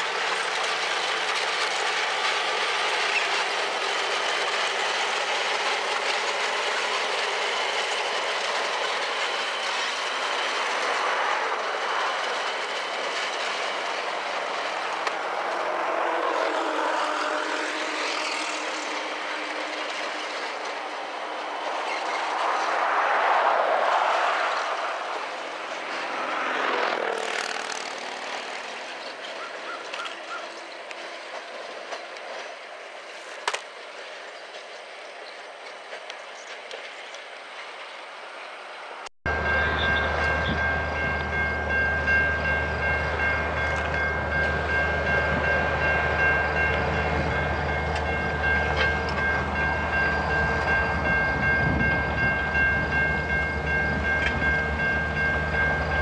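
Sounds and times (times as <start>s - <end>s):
diesel locomotive engine: 0.0s - 56.0s
freight train low rumble: 0.0s - 56.0s.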